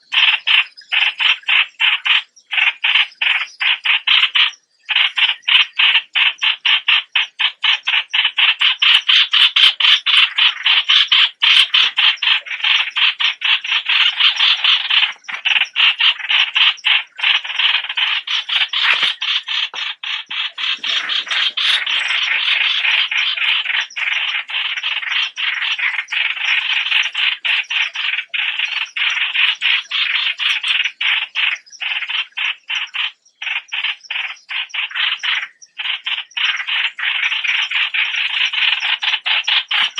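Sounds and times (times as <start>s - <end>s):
bird chattering call: 0.0s - 39.9s.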